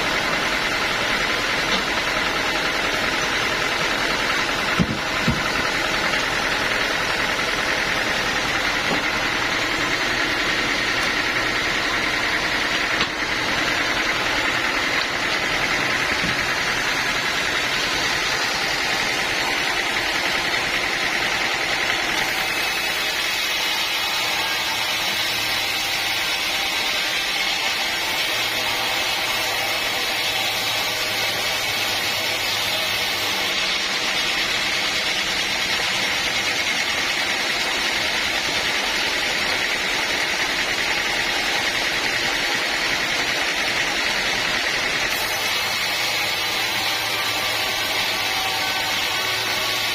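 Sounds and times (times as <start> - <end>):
sawmill machinery drone: 0.0 - 49.9.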